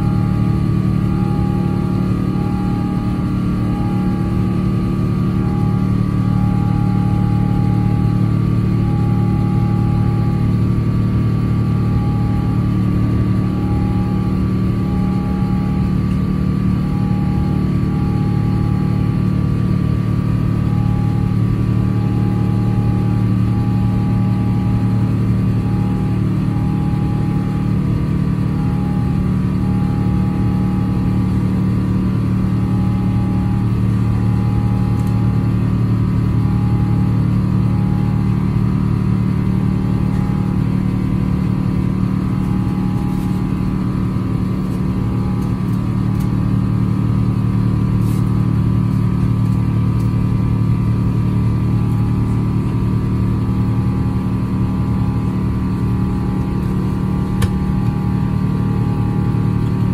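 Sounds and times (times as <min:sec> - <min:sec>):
airplane cabin roar: 0:00.0 - 0:59.9
faint intermittent tone: 0:00.0 - 0:59.9.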